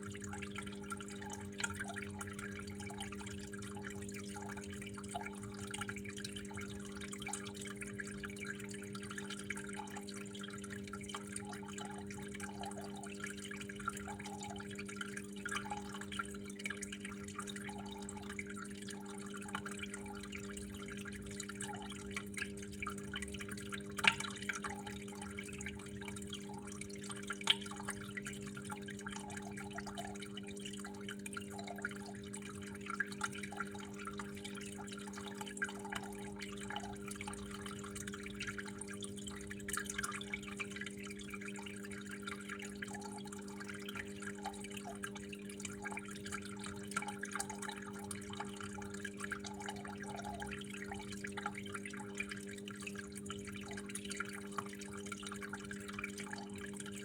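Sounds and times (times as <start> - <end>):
water flowing and dripping: 0.0 - 57.0.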